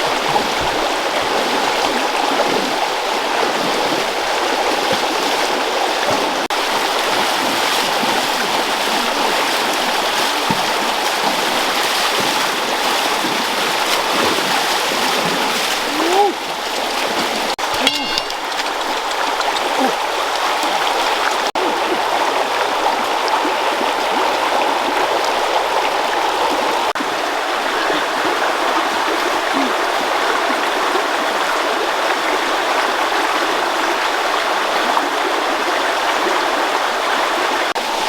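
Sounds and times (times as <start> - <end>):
stream running water: 0.0 - 38.0.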